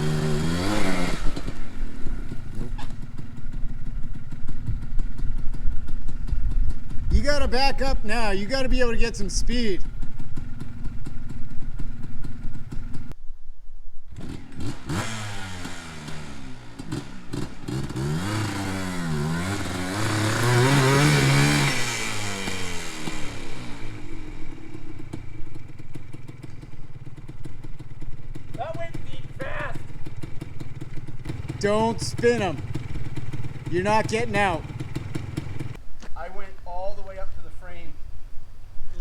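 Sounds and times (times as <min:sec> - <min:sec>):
two-stroke engine revving hard: 0:00.0 - 0:13.2, 0:14.1 - 0:35.8.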